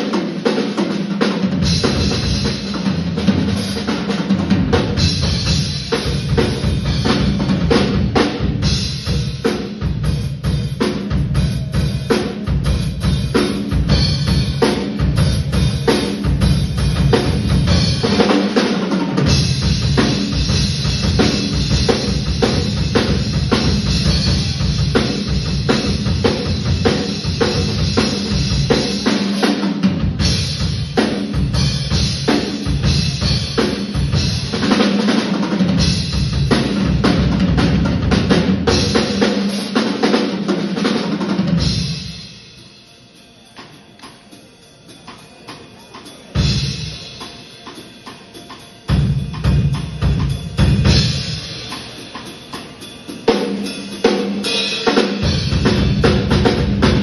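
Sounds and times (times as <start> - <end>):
drum kit solo: 0.0 - 57.0.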